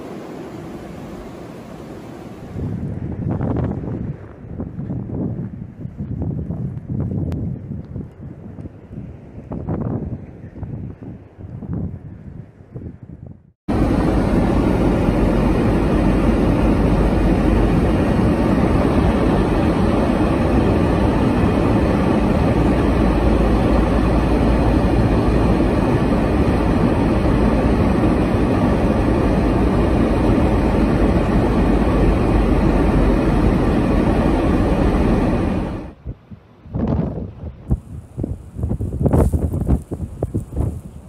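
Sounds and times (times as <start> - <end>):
car interior wind and road noise: 0.0 - 41.0.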